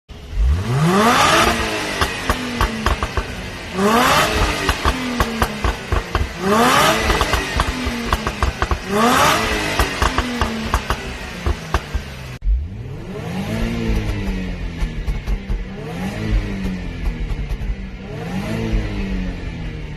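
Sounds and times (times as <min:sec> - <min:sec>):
car engine revving: 0:00.1 - 0:19.9
exhaust crackles and pops: 0:00.4 - 0:12.6, 0:13.4 - 0:19.0.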